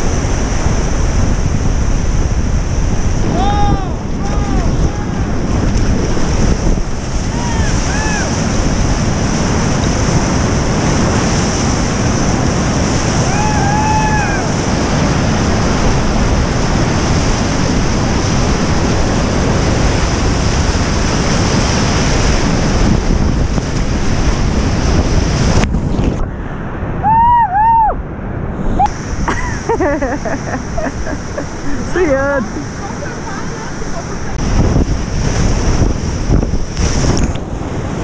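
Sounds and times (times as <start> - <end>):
whitewater rushing: 0.0 - 27.9, 28.6 - 38.0
wind buffeting microphone: 0.0 - 38.0.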